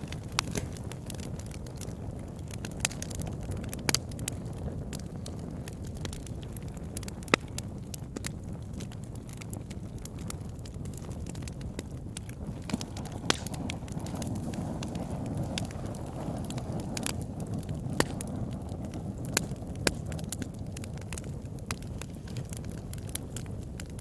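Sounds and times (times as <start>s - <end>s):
burning wood crackling and popping: 0.0s - 24.0s
campfire roaring: 0.0s - 24.0s.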